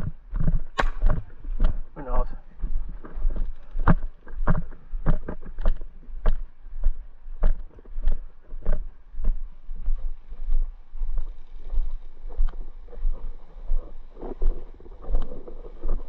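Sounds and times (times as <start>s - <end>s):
footsteps walking: 0.0s - 16.0s
wind rumble on microphone: 0.0s - 16.0s.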